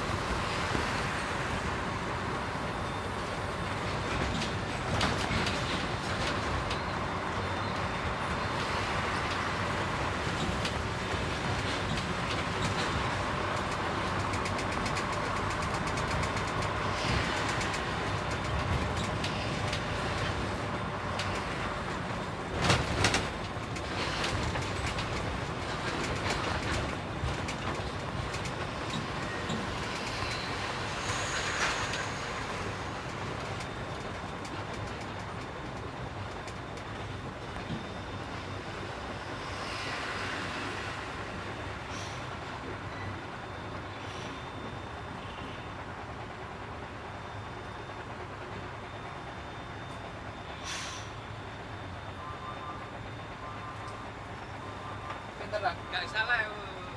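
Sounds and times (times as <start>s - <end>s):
diesel engine hum: 0.0s - 56.9s
road noise: 0.0s - 56.9s.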